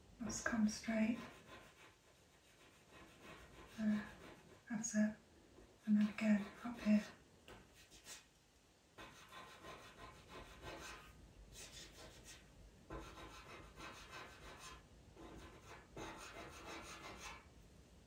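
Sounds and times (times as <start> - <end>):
pencil scratching on paper: 0.3 - 4.7, 5.9 - 8.2, 9.0 - 17.5.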